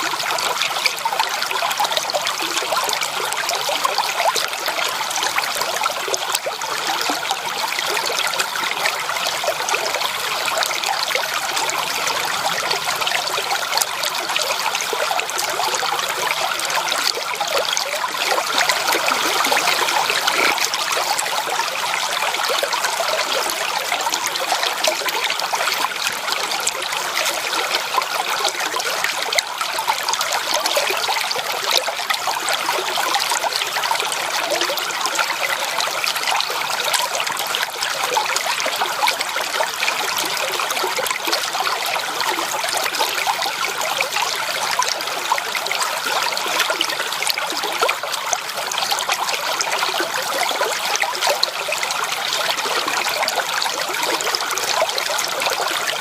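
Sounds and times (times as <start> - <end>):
stream water rushing and trickling: 0.0 - 56.0.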